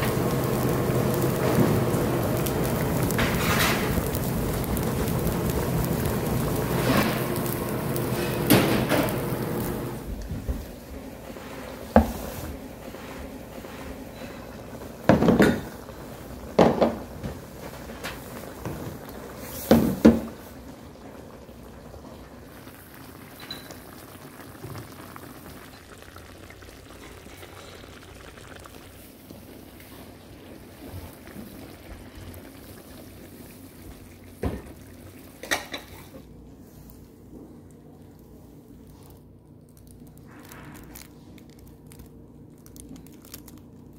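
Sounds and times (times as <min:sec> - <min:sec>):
pot bubbling: 0:00.0 - 0:36.5.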